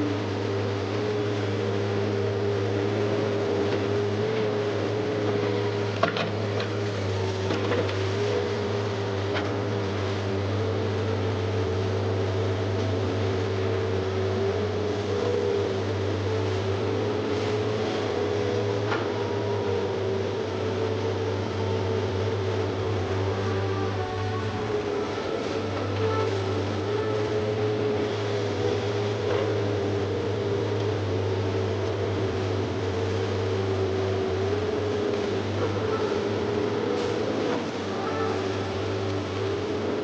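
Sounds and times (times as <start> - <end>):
excavator engine hum: 0.0 - 40.0
hydraulic whine: 0.0 - 40.0.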